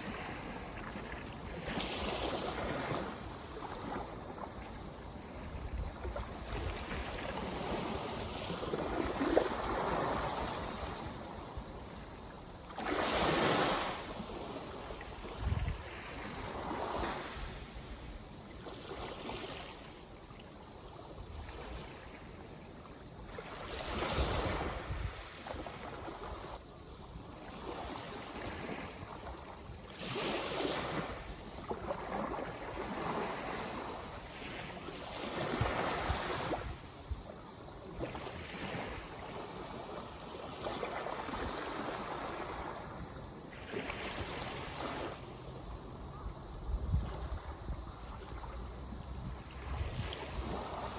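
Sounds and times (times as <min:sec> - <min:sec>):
small waves breaking on beach: 0:00.0 - 0:50.9.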